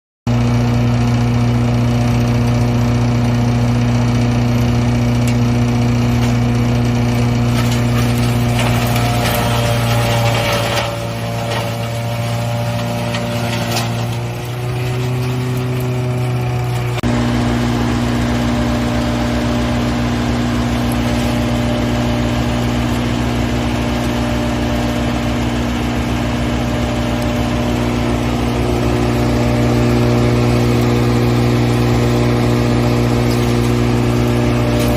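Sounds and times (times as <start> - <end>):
hammer-mill grinder running: 0.3 - 34.9.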